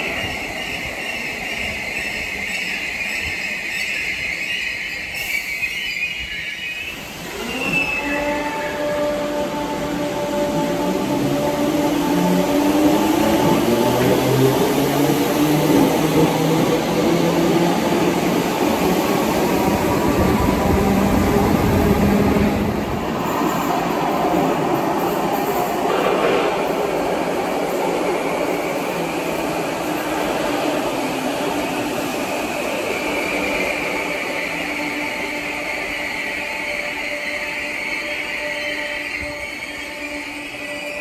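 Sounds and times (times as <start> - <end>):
high squeal of braking train: 0.0 - 41.0
train wheels rumbling: 7.0 - 41.0.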